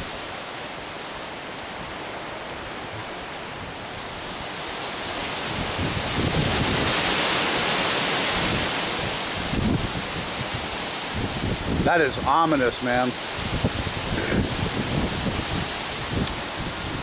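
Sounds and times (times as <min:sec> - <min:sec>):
water rushing: 0:00.0 - 0:17.0
wind rushing: 0:02.9 - 0:17.0.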